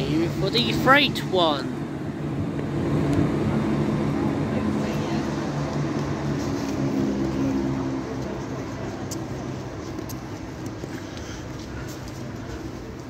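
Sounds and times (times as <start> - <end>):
diesel train engines droning: 0.0 - 13.0.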